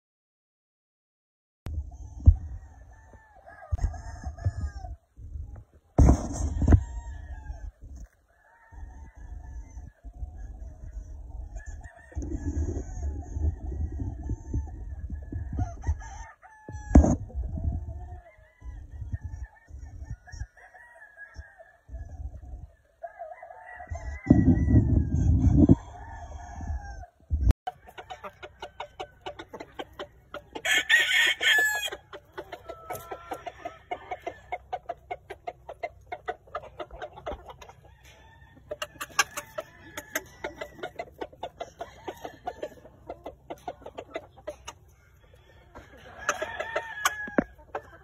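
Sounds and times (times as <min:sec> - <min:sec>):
roosters clucking: 0:01.7 - 0:48.0
roosters crowing: 0:02.0 - 0:05.1, 0:06.0 - 0:22.0, 0:22.8 - 0:48.0.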